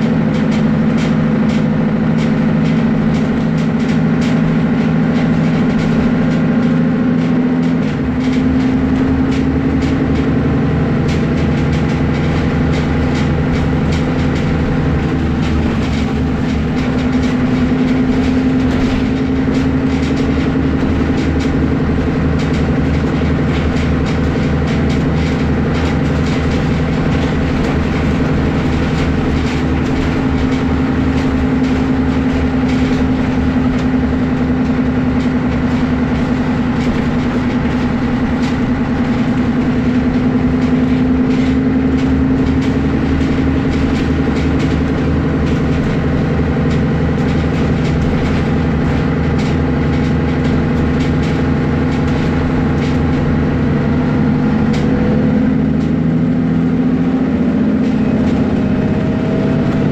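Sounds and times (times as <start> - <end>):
bus engine running: 0.0 - 59.9.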